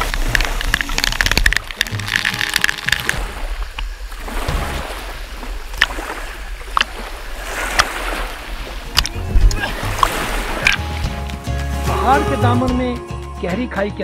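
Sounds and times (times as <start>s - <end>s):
low rumble of moving water: 0.0s - 11.2s
water sloshing and splashing: 0.0s - 11.9s.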